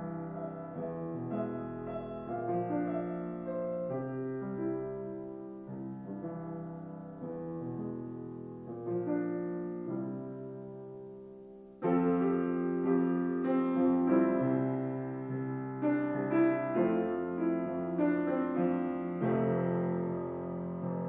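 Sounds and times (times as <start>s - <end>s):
grand piano playing: 0.0s - 21.0s.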